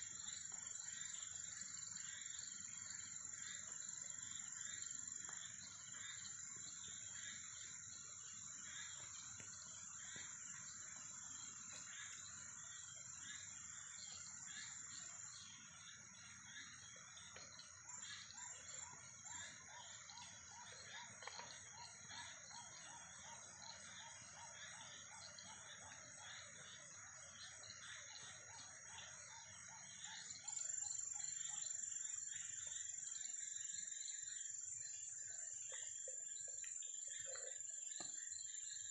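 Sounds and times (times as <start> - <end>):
crickets trilling: 0.0 - 38.9
quick cricket chirps: 0.0 - 38.9.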